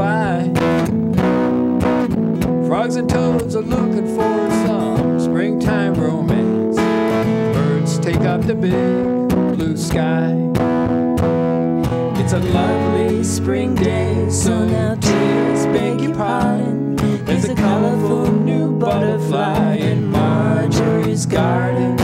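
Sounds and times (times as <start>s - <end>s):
person singing: 0.0s - 0.6s, 2.5s - 10.5s, 12.1s - 22.0s
acoustic guitars playing folk: 0.0s - 22.0s.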